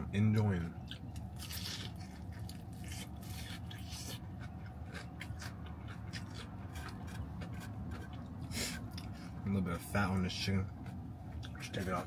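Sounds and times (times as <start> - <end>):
steady low hum: 0.0 - 12.0
chewing crispy fried chicken: 0.6 - 9.5, 10.2 - 12.0.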